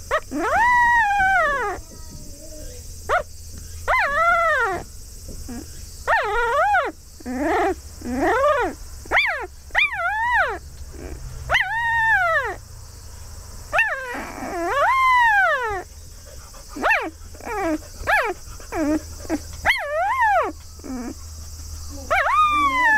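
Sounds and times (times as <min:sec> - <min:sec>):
puppy whining and crying: 0:00.0 - 0:12.6, 0:13.7 - 0:22.9.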